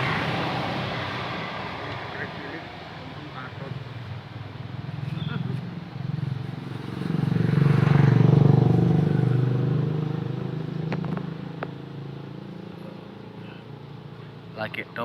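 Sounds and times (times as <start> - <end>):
motor engine passing by: 0.0 - 14.6.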